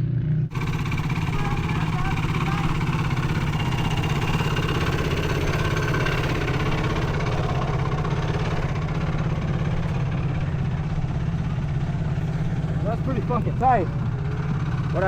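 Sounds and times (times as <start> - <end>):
quad engine idling: 0.3 - 15.0.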